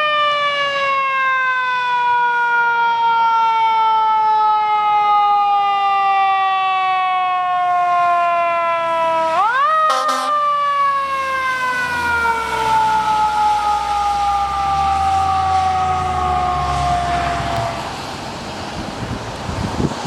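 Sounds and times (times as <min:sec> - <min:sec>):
siren wailing: 0:00.0 - 0:18.1.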